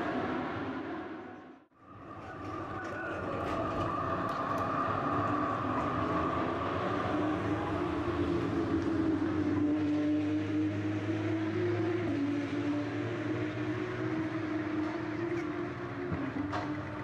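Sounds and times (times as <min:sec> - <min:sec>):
tram whine and wheel noise: 0:00.0 - 0:17.0.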